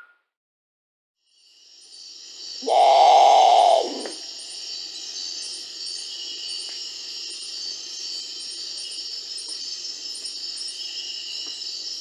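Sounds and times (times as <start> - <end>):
high insect chorus: 1.3 - 12.0.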